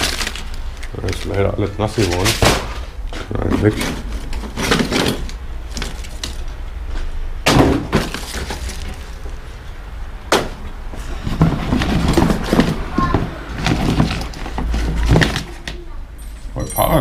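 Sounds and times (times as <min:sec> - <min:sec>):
rummaging through cardboard box: 0:00.0 - 0:09.4, 0:10.9 - 0:15.7.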